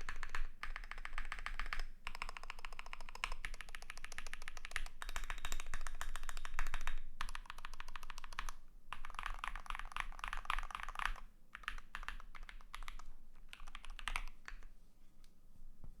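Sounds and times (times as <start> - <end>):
typing on mechanical keyboard: 0.0 - 14.7.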